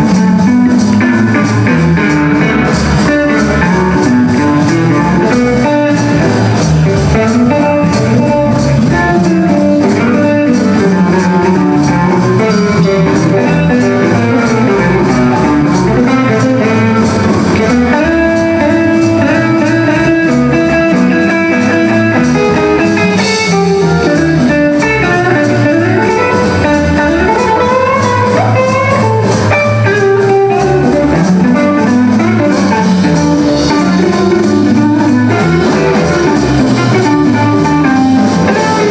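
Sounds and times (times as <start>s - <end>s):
bass: 0.0s - 38.9s
drums: 0.0s - 38.9s
electric guitar lead with bending notes: 0.0s - 38.9s.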